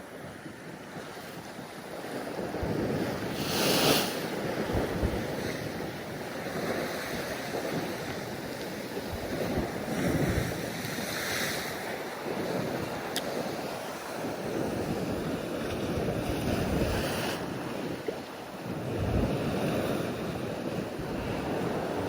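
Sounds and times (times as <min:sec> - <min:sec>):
wind buffeting microphone: 0:00.0 - 0:22.0
sea waves washing against rocks: 0:00.1 - 0:22.0.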